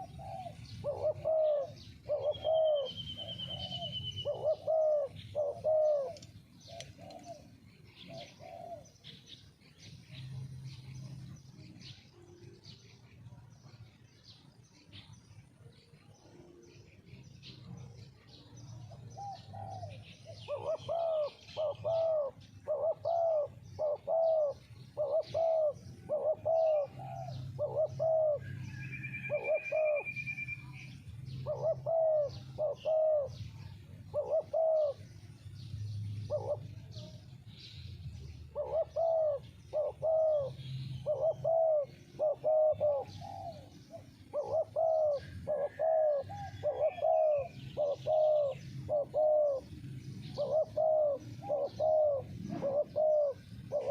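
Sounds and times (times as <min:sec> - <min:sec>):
doves cooing: 0:00.0 - 0:12.8, 0:15.0 - 0:37.5, 0:38.1 - 0:53.9
bird trill: 0:00.0 - 0:53.9.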